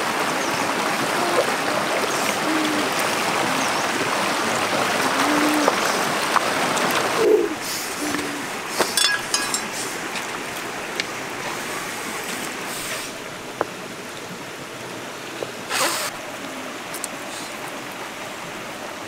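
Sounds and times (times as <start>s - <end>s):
river water over stones: 0.0s - 19.0s.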